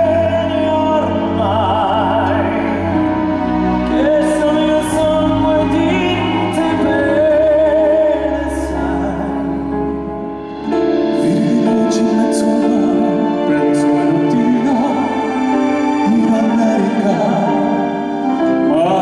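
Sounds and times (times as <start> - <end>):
man singing operatically: 0.0 - 10.0, 11.0 - 19.0
live musical accompaniment: 0.0 - 19.0.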